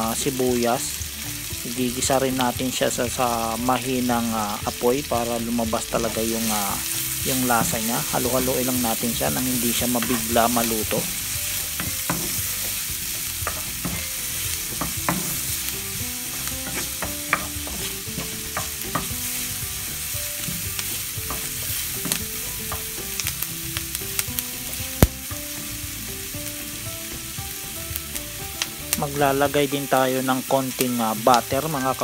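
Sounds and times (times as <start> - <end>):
onion and garlic sizzling: 0.0 - 32.0.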